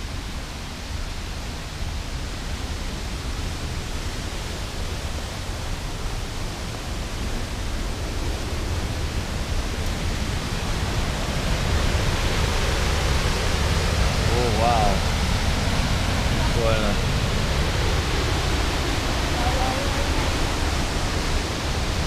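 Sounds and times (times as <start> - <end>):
waterfall and creek rushing: 0.0 - 22.0.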